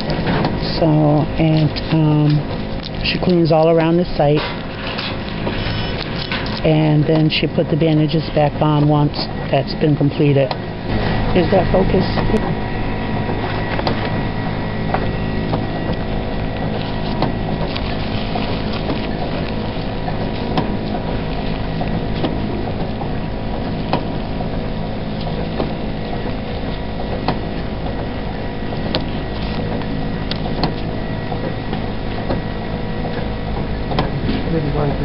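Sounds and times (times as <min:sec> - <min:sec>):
machinery hum: 0:00.0 - 0:35.0.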